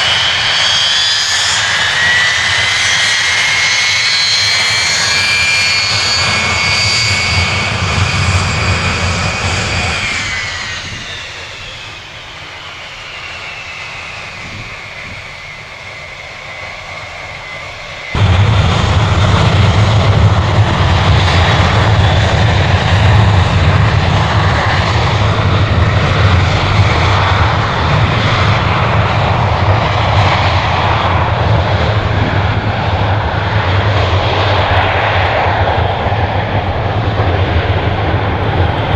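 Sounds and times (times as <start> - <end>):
jet engine whine: 0.0 - 38.9
jet noise with low rumble: 0.0 - 38.9.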